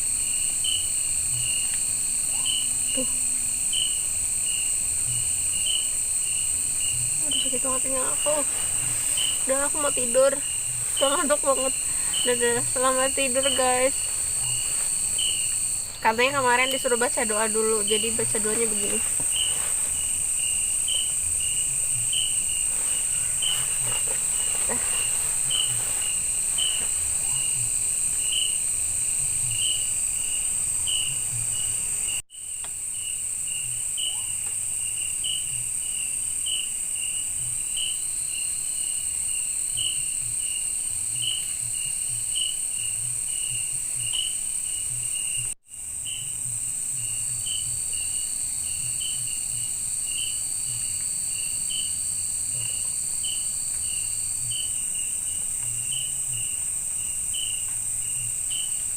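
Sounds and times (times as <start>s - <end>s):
high-pitched insect trill: 0.0s - 58.9s
insect chirping: 0.0s - 58.9s.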